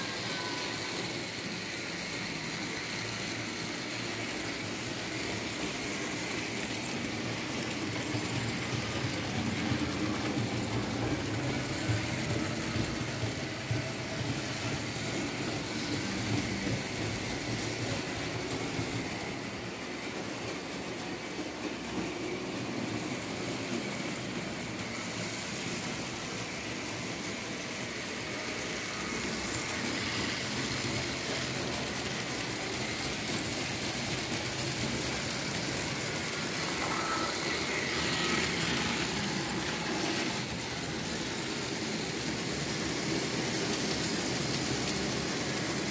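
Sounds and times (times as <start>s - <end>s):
model train rolling on rails: 0.0s - 45.9s.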